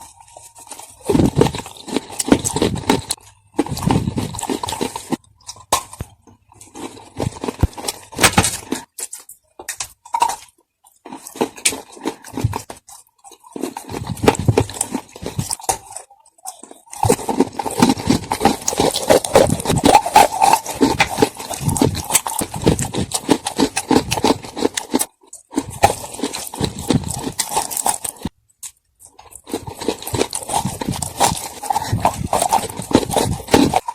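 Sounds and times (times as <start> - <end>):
crunching and chewing dry clay: 0.0 - 33.9.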